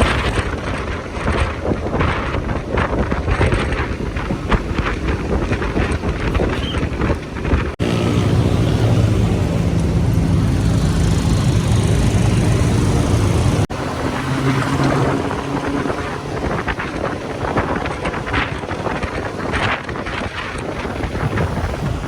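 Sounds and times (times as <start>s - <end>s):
wind noise on microphone: 0.0s - 22.0s
motorcycle engine running: 3.4s - 22.0s.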